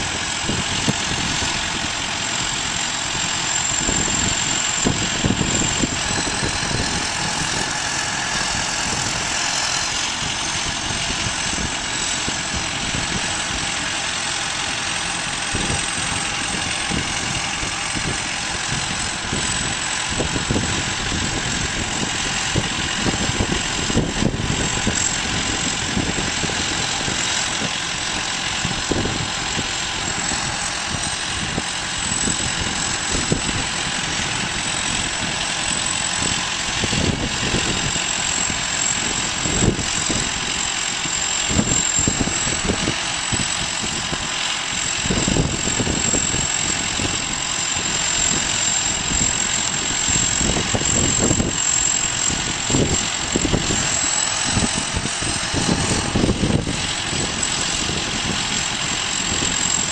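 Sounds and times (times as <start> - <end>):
harvest machinery running: 0.0 - 59.9
thin high whine: 0.0 - 59.9.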